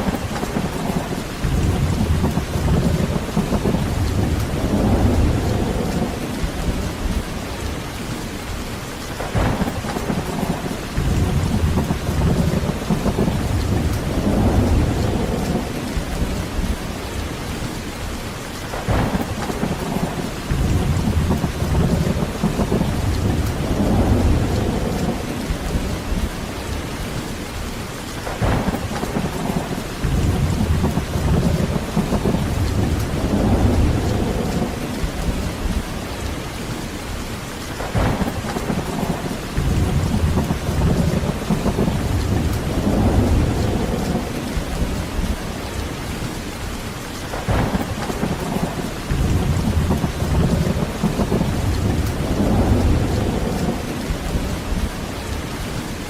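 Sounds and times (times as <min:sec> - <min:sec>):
rolling thunder: 0:00.0 - 0:07.7, 0:09.1 - 0:17.7, 0:18.7 - 0:27.4, 0:28.2 - 0:36.9, 0:37.7 - 0:46.3, 0:47.3 - 0:55.9
heavy rain falling: 0:00.0 - 0:56.0.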